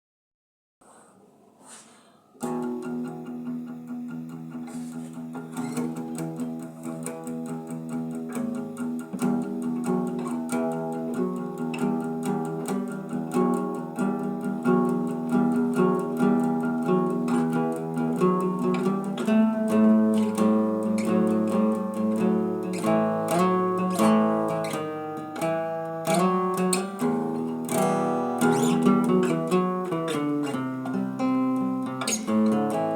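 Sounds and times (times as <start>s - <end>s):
guitar picked notes: 2.4s - 32.9s.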